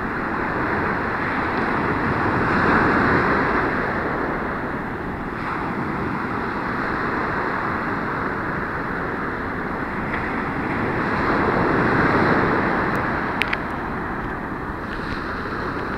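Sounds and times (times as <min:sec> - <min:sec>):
surf breaking on beach: 0:00.0 - 0:15.9.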